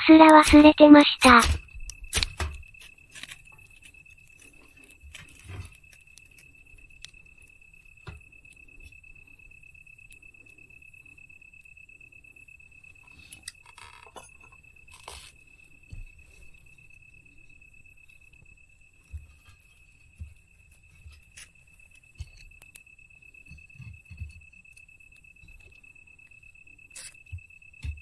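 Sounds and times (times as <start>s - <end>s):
night insects trilling: 0.0s - 28.0s.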